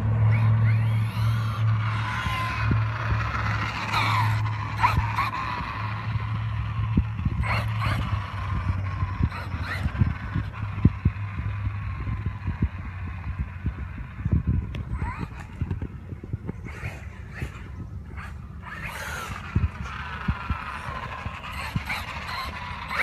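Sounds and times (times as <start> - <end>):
rc truck motor whining: 0.0 - 23.0
steady low hum: 0.0 - 23.0.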